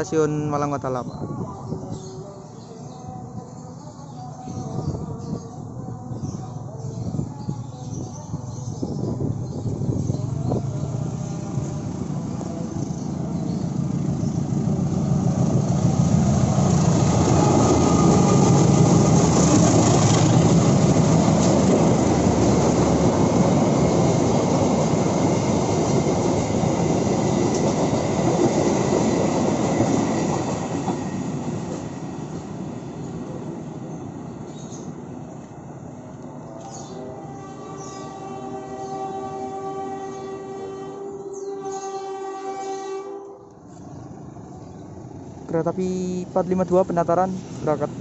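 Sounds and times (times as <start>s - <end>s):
diesel train passing: 4.6s - 48.0s.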